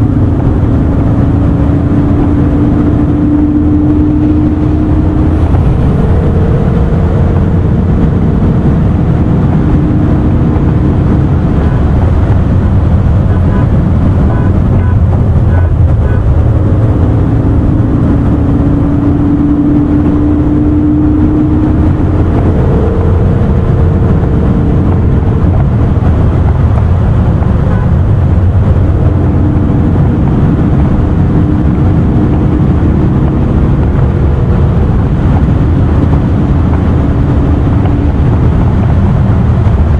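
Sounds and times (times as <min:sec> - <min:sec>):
car engine and road noise: 0:00.0 - 0:39.9
low hum: 0:00.0 - 0:39.9.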